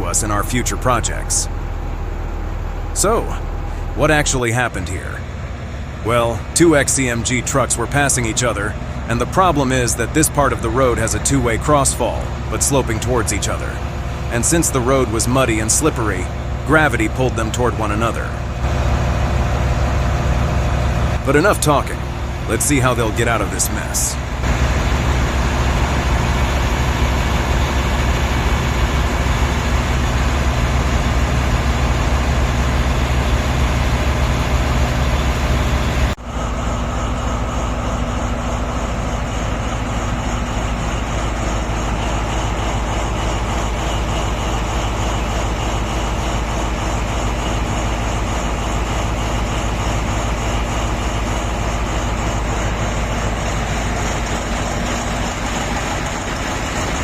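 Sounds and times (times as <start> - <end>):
diesel engines droning: 0.0 - 57.0.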